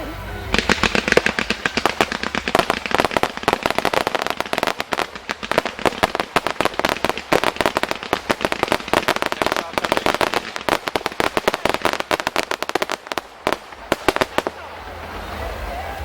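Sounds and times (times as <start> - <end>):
fireworks bangs and pops: 0.5 - 15.3.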